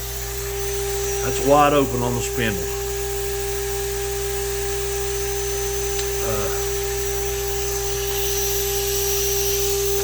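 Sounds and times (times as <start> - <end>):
spindle motor whining: 0.0 - 10.0.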